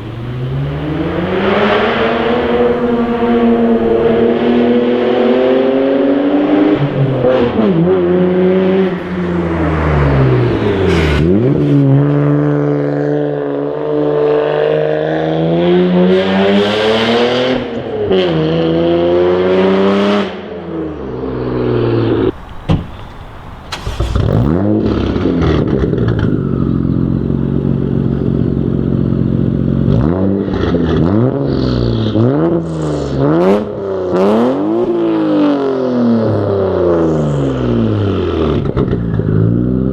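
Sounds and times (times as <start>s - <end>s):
engine revving: 0.0s - 13.1s, 15.3s - 39.9s
car engine accelerating: 0.0s - 39.9s.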